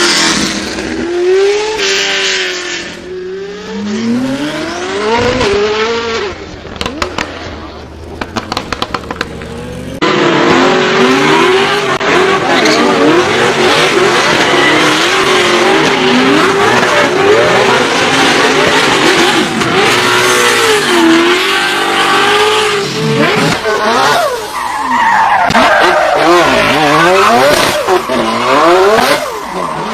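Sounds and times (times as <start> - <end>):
racing car engine revving: 0.0 - 29.9
tyre and road noise: 0.0 - 29.9.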